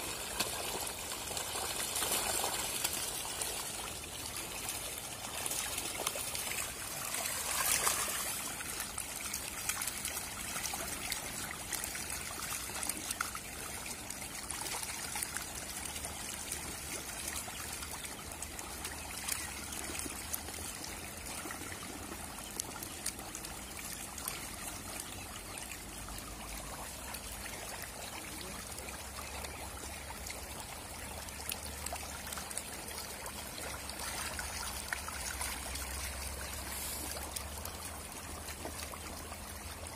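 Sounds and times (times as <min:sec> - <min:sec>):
fish splashing in water: 0:00.0 - 0:39.9.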